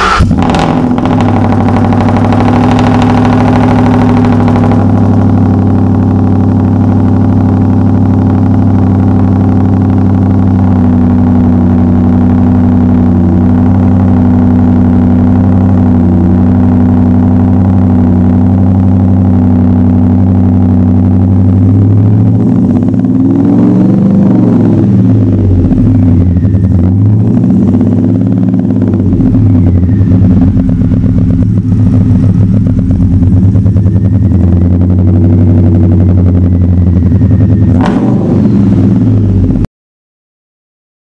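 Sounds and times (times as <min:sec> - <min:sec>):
car engine revving: 0:00.0 - 0:39.7
sharp exhaust crack: 0:00.0 - 0:39.7.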